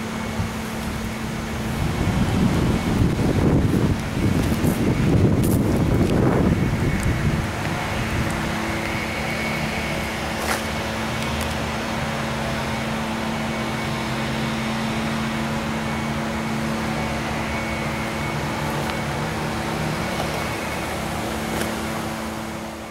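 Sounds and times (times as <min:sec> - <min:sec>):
motor humming: 0:00.0 - 0:22.9.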